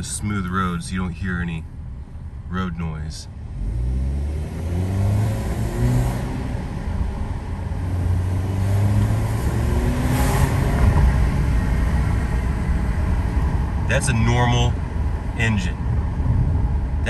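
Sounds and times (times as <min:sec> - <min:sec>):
car engine accelerating: 0:01.8 - 0:17.0.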